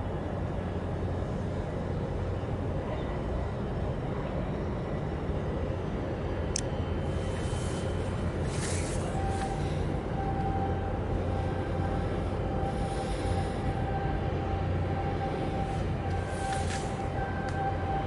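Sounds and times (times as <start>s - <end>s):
ship engine low rumble: 0.0s - 18.0s.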